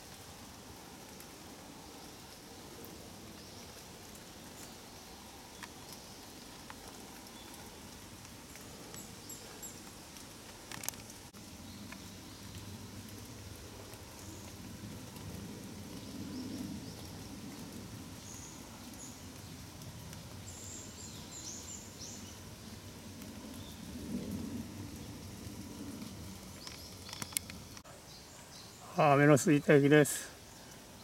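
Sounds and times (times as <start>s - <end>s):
steady rain: 0.0s - 31.0s
raindrops tapping on umbrella: 0.9s - 22.2s, 23.0s - 27.8s.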